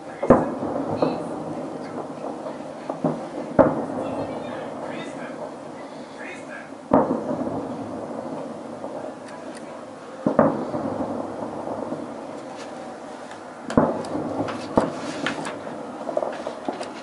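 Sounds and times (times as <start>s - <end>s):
distant firework booms: 0.0s - 17.0s
rolling rumble: 0.0s - 17.0s.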